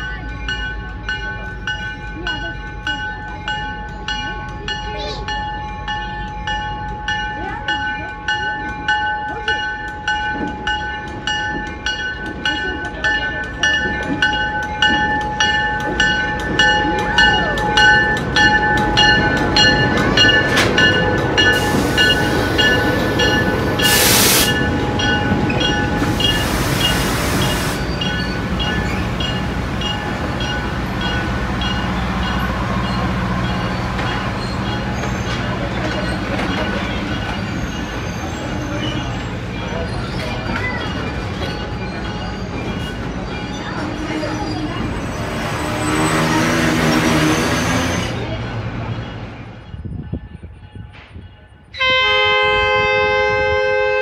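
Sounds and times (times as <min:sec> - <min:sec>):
bell ringing: 0:00.0 - 0:45.5
locomotive engine rumbling: 0:00.0 - 0:53.7.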